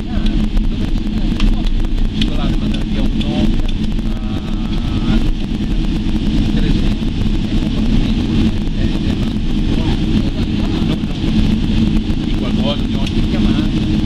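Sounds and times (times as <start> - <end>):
jet engines rumble and whine: 0.0 - 14.0.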